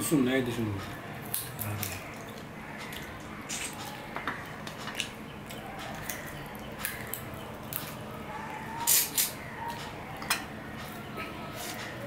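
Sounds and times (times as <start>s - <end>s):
man chewing and smacking: 0.8s - 12.0s.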